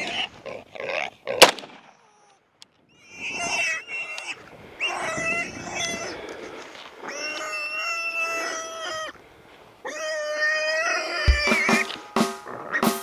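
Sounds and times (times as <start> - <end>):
hog squealing: 0.0 - 6.2, 7.0 - 9.2, 9.8 - 13.0.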